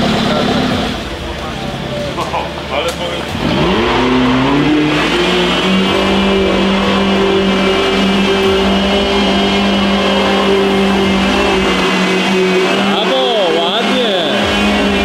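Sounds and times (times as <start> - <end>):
engine at high steady revs: 0.0 - 15.0.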